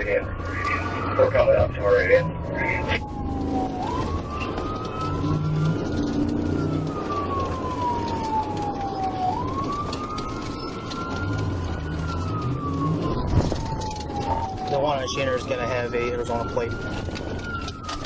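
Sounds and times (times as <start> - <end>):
car engine and road noise: 0.0 - 18.0
police siren wailing: 0.0 - 18.0.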